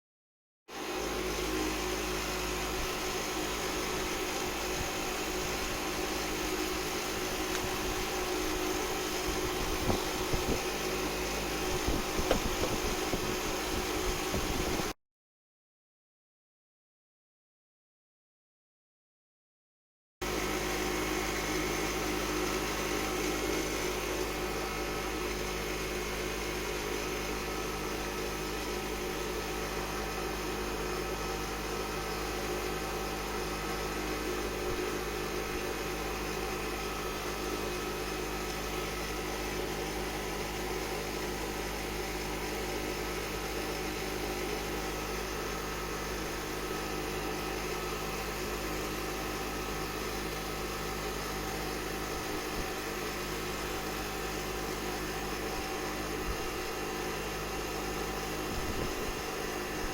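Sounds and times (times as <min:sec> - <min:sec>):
machine humming: 0:00.7 - 0:15.0, 0:20.2 - 0:59.9.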